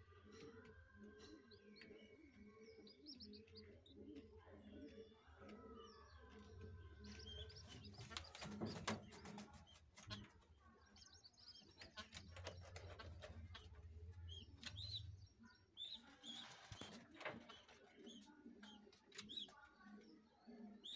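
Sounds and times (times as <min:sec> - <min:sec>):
birds chirping and squeaking: 0:00.2 - 0:20.9.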